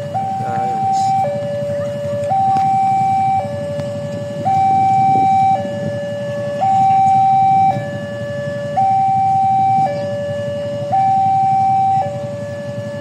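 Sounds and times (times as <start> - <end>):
steady low rumble: 0.0 - 13.0
two-tone siren: 0.0 - 13.0.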